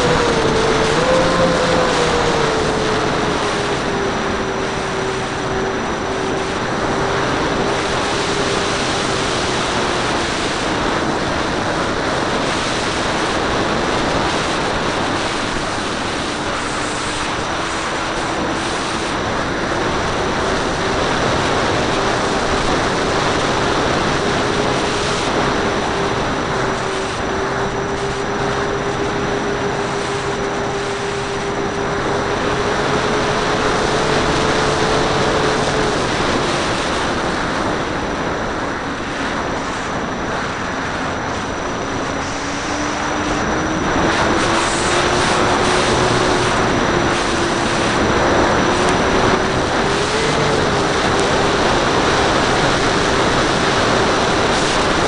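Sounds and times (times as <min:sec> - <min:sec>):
model plane motors and propellers: 0:00.0 - 0:55.0
wind rush: 0:00.0 - 0:55.0.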